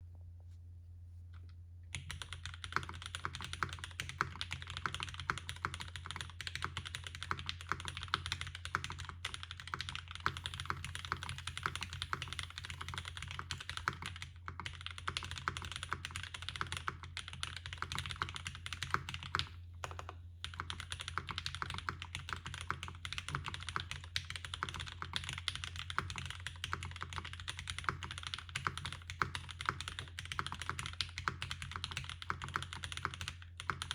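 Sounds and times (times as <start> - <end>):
fast keyboard typing: 1.9 - 33.9.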